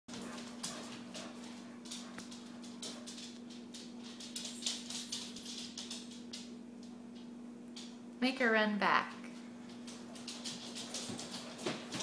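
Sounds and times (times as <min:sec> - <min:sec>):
dog claws clicking on wooden floor: 0:00.1 - 0:08.0, 0:09.6 - 0:12.0
low steady hum: 0:00.1 - 0:12.0.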